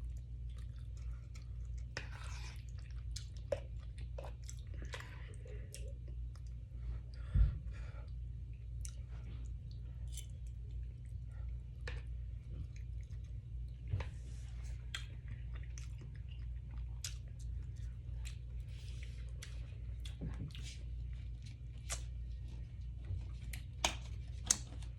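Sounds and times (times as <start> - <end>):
person chewing food: 0.0 - 7.3, 8.0 - 24.9
steady low hum: 0.0 - 24.9.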